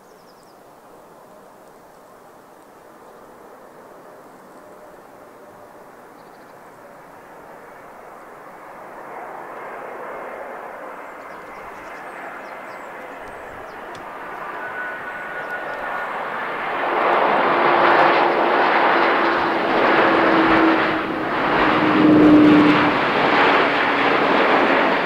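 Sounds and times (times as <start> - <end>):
jet engines on landing: 2.3 - 25.0.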